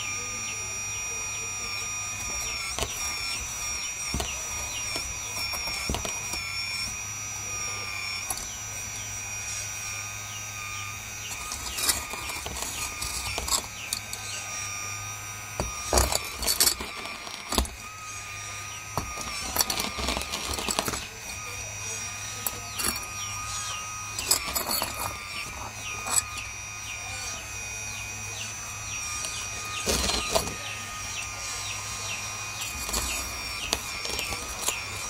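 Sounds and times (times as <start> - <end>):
hydraulic pump whine: 0.0 - 35.0.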